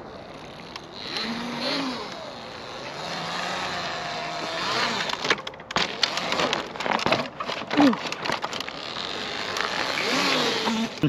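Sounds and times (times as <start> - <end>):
electric motorbike motor whining: 0.0 - 7.0, 7.7 - 11.0.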